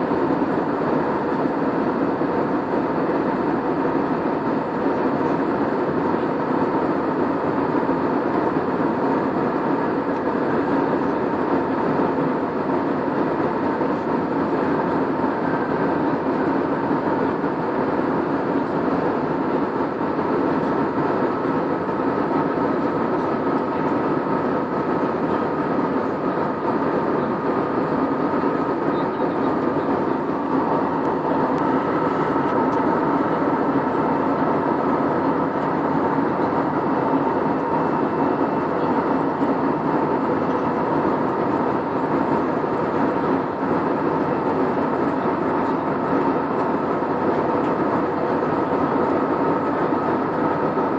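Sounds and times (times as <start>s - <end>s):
airliner engine and airflow rush: 0.0s - 50.9s
faint steady whine: 0.0s - 50.9s.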